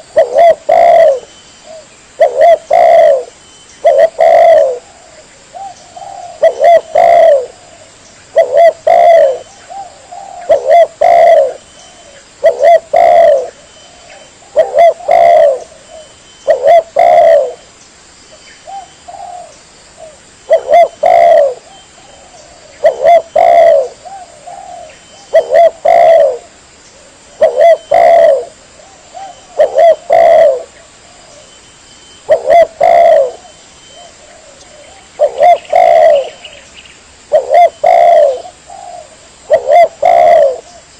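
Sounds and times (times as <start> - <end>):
dove cooing: 0.0 - 17.7, 18.6 - 31.6, 32.2 - 40.9.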